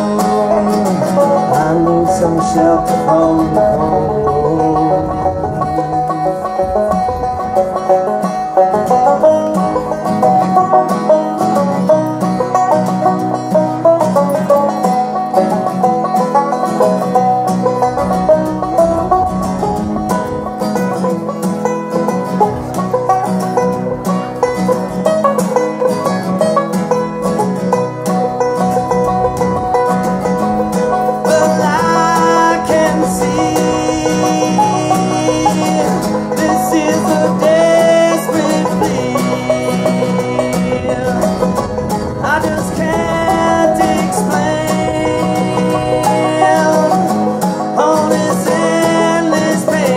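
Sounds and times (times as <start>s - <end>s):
banjo picking: 0.0s - 49.9s
strummed acoustic guitar: 0.0s - 49.9s.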